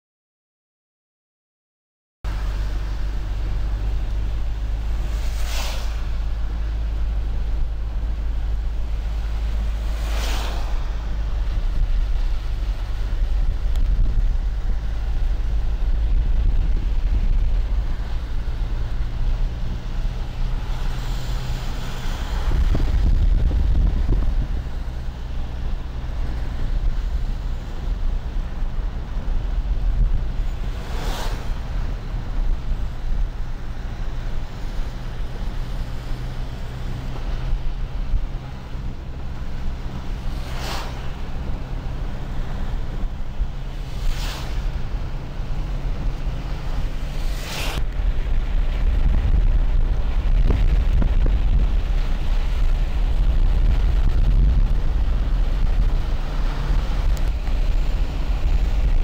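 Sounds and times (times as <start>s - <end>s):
car engine and tyre rumble: 2.2s - 59.0s
vehicles passing whoosh: 2.3s - 59.0s.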